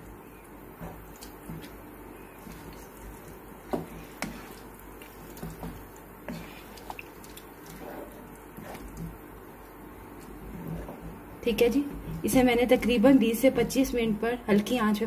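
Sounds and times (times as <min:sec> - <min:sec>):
spatula stirring wet food: 0:00.0 - 0:14.9.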